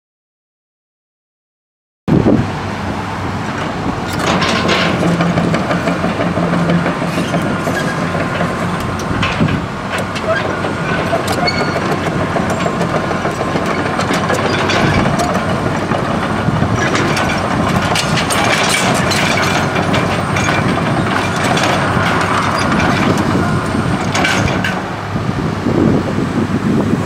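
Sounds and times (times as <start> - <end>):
diesel engine running under load: 2.1 - 27.0
excavator tracks clanking: 2.8 - 26.2.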